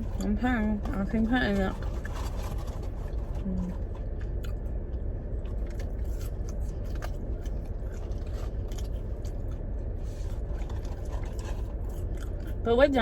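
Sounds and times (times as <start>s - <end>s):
low rumble: 0.0s - 13.0s
person chewing crunchy fries: 0.0s - 13.0s.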